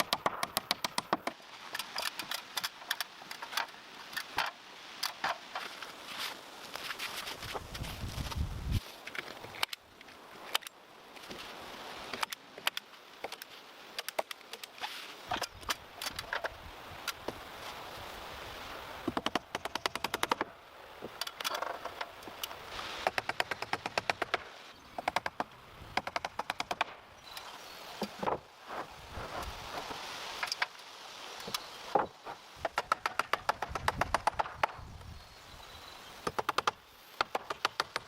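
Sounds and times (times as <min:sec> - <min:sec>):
faint steady hiss: 0:00.0 - 0:38.0.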